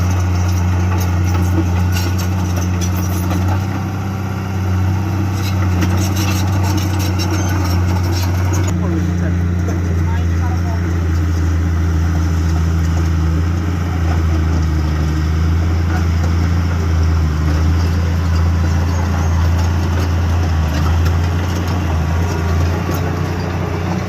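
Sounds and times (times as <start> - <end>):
bulldozer diesel engine humming: 0.0 - 24.0.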